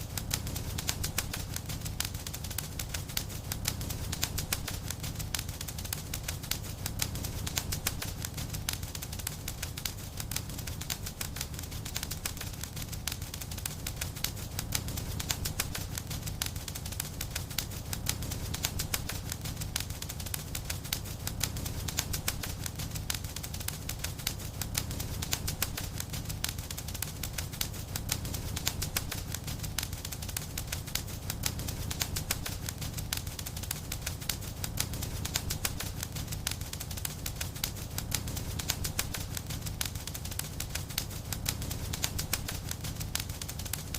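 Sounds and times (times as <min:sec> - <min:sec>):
low rumble of flame: 0:00.0 - 0:43.9
wood fire crackling: 0:00.0 - 0:43.9.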